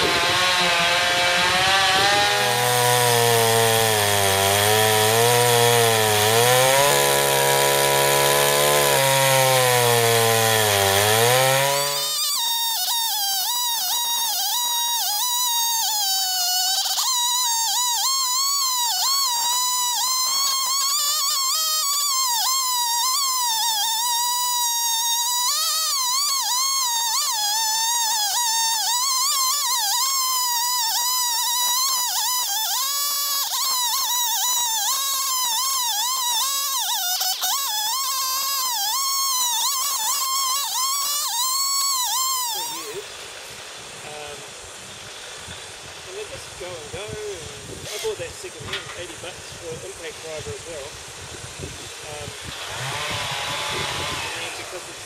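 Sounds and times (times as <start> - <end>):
chainsaw ripping a log: 0.0 - 55.0.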